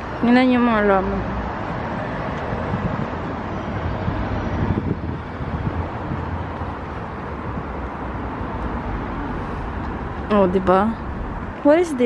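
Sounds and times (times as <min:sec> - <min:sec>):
distant traffic rumble: 0:00.0 - 0:12.0
wind buffeting microphone: 0:00.0 - 0:12.0.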